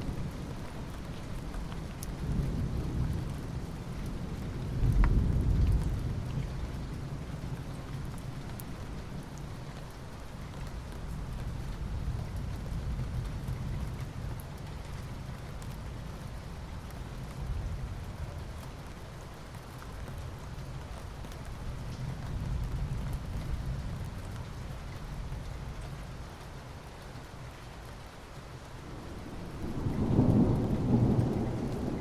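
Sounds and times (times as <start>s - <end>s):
rain on asphalt: 0.0s - 32.0s.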